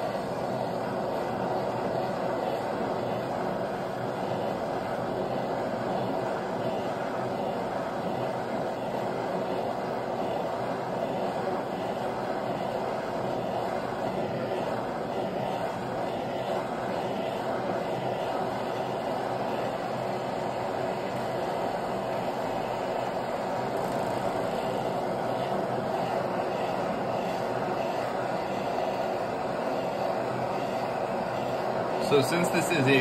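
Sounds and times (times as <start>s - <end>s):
butane torch hissing: 0.0s - 33.0s.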